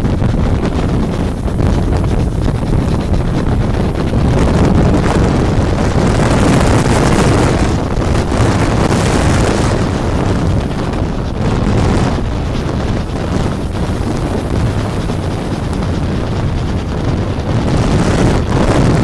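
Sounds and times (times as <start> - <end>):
train running along track: 0.0 - 19.0
wind rushing over microphone: 0.0 - 19.0.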